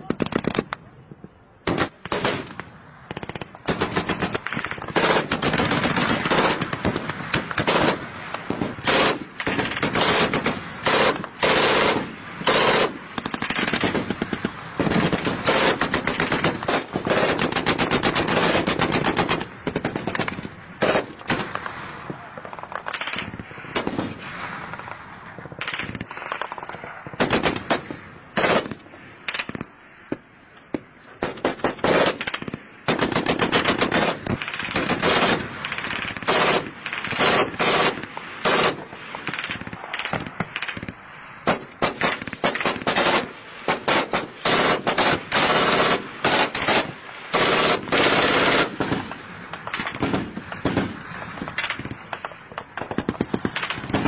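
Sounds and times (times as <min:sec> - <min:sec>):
machine-gun fire: 0:01.6 - 0:21.6, 0:25.6 - 0:29.6, 0:31.2 - 0:51.9.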